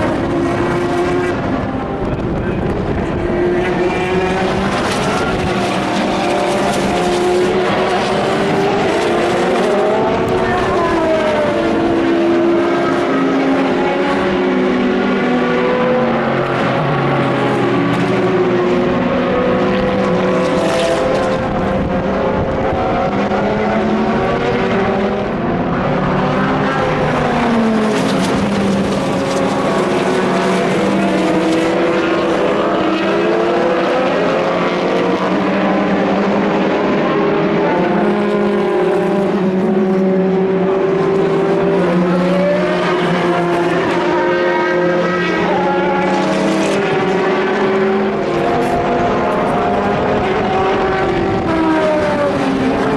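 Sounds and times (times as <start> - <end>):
race car engines at high revs: 0.0 - 52.9.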